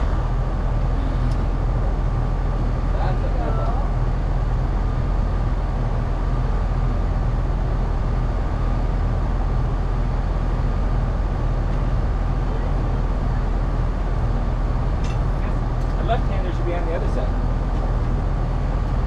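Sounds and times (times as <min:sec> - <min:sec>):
engine running steadily: 0:00.0 - 0:19.0
faint steady whine: 0:00.0 - 0:19.0.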